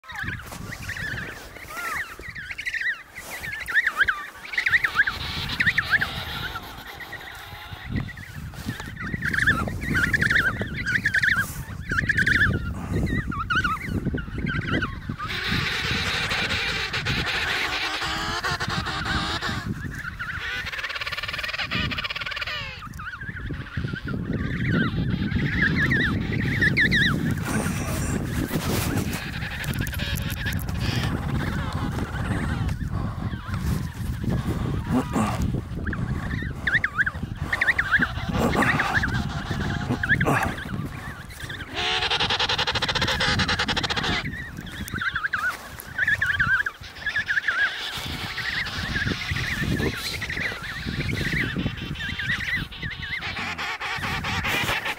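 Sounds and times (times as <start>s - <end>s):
penguin pulsing call: 0.1s - 54.9s.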